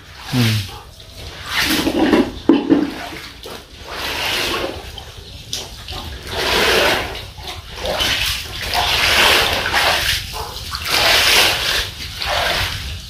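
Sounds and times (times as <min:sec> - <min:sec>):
hands splashing shallow water: 0:01.4 - 0:13.0.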